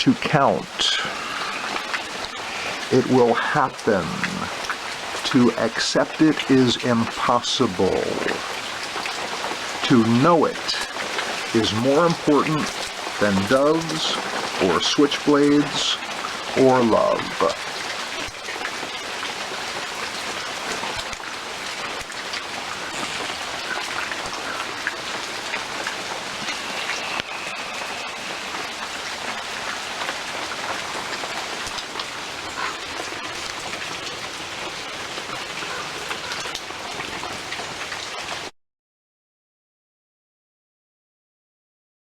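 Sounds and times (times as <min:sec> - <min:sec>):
steady rain falling: 0:00.0 - 0:38.5.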